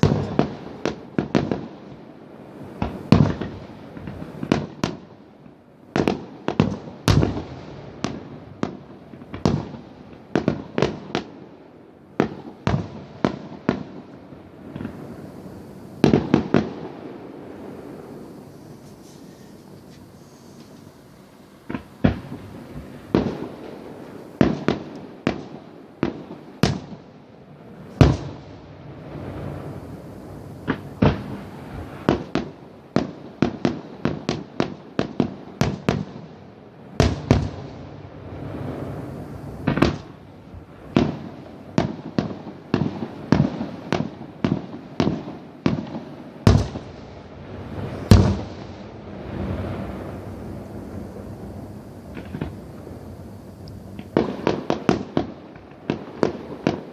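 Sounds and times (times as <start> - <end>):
fireworks bangs and cracks: 0.0 - 56.9
fireworks rumble and crackle: 0.0 - 56.9.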